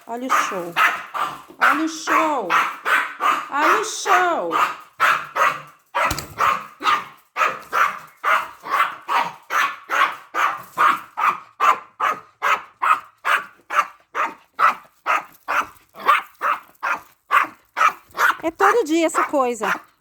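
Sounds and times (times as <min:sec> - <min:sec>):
dog barking: 0:00.1 - 0:20.0.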